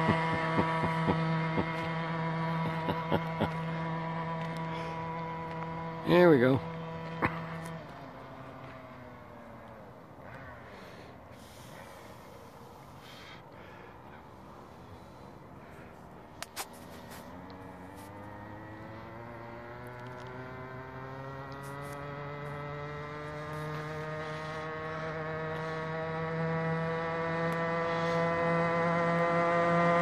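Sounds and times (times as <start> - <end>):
motorized bicycle engine revving: 0.0 - 13.8, 16.8 - 30.0.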